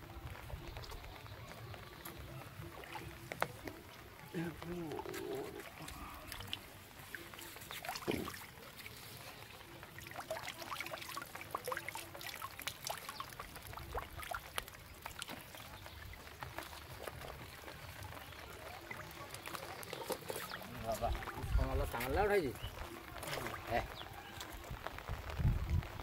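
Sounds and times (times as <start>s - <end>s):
small splashes in shallow water: 0.0s - 26.0s
water trickling and dripping: 0.0s - 26.0s.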